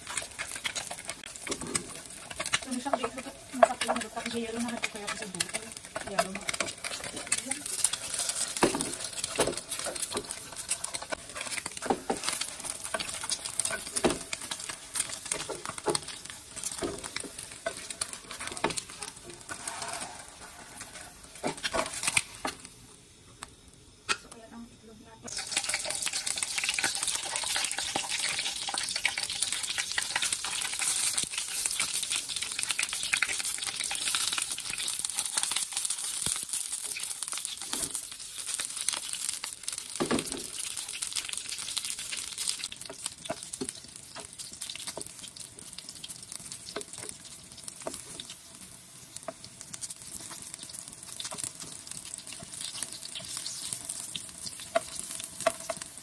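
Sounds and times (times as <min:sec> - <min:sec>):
eggplant sizzling in hot oil: 0:00.0 - 0:56.0.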